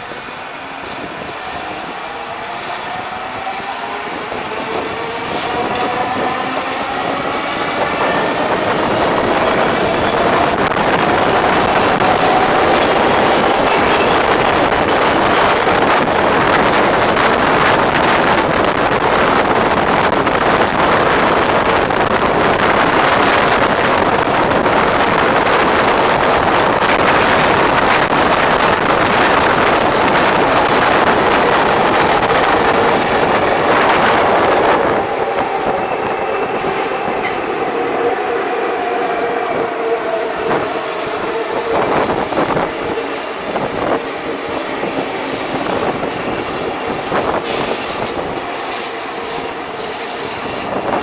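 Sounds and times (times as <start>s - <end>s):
train rumbling on track: 0.0s - 51.0s.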